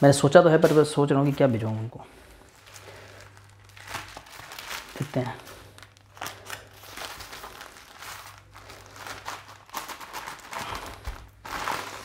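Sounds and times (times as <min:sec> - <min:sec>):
parcel wrapping crinkling: 0:00.0 - 0:12.0.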